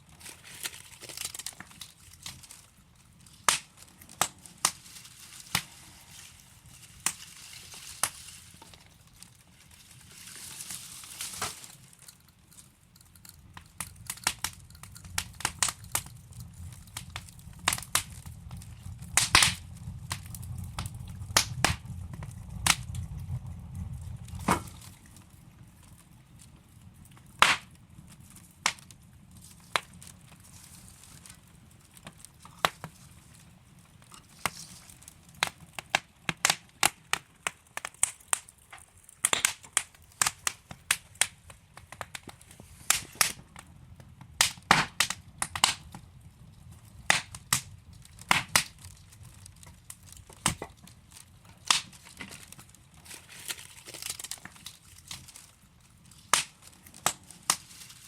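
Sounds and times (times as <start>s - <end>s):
soft rush of flame: 0.0s - 58.0s
wood fire crackling and popping: 0.0s - 58.0s.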